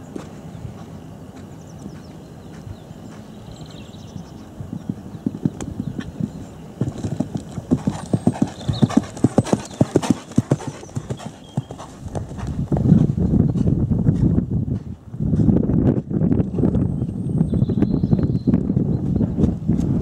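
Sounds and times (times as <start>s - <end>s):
loud continuous noise: 0.0s - 20.0s
horse hoofbeats on sand: 0.1s - 20.0s.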